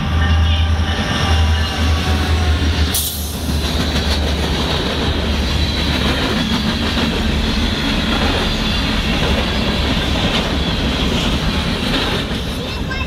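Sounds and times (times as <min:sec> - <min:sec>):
diesel locomotive engine drone: 0:00.0 - 0:13.0
train wheels rolling over rails: 0:01.0 - 0:13.0.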